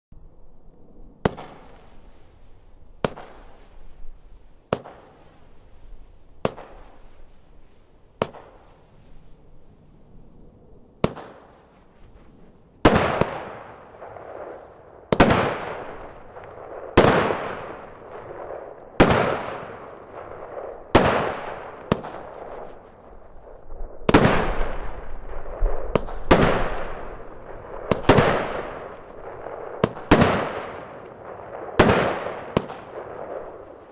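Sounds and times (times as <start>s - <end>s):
firework crackle: 1.2s - 10.2s, 10.9s - 33.9s
firework reports: 1.2s - 10.2s, 10.9s - 33.9s.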